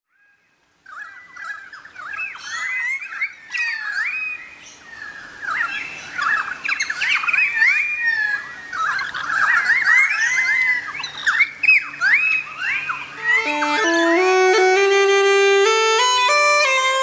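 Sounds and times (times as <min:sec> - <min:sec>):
many birds chirping: 0:00.1 - 0:17.0.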